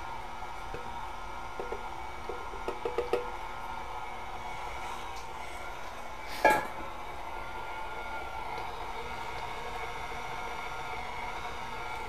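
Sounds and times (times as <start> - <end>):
stand mixer running: 0.0 - 12.0.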